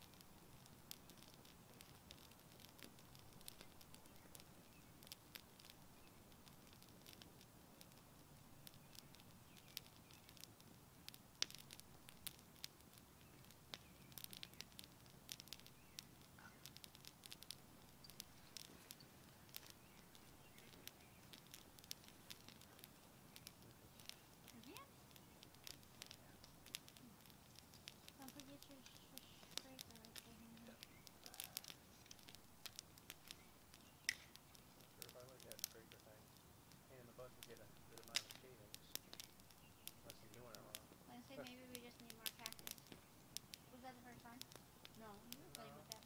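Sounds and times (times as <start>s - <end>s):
campfire crackling and popping: 0.0s - 46.0s
low rush of flame: 0.0s - 46.0s.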